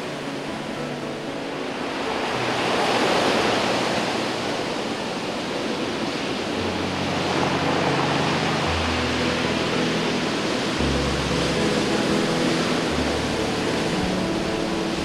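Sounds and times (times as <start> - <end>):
surf breaking on cobble beach: 0.0 - 15.0.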